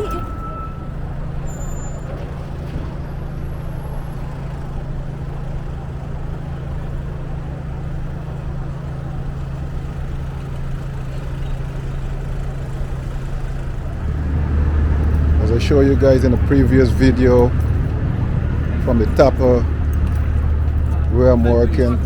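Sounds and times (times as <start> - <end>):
road noise: 0.0 - 22.0
traffic engine hum: 0.0 - 22.0.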